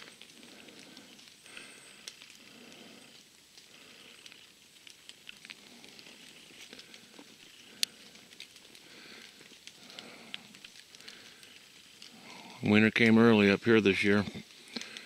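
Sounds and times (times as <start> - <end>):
faint crackles and ticks: 0.0 - 15.0.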